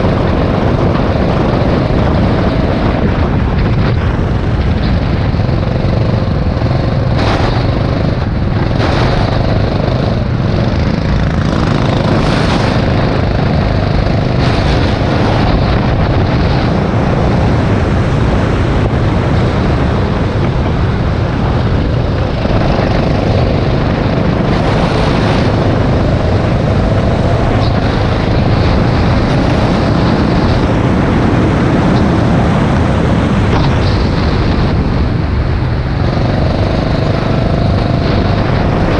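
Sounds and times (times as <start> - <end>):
go-kart engine running hard: 0.0 - 38.9
wind noise on microphone: 0.0 - 38.9.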